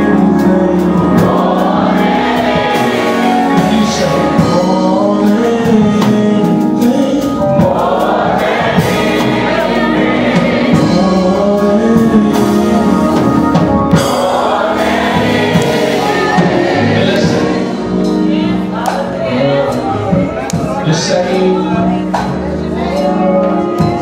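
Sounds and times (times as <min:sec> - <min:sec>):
choir singing gospel: 0:00.0 - 0:24.0.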